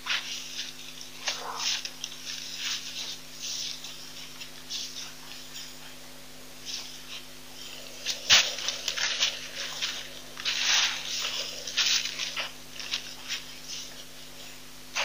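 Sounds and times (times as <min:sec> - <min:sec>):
low electrical hum: 0:00.0 - 0:15.0
rhinos scraping and rustling: 0:00.0 - 0:15.0.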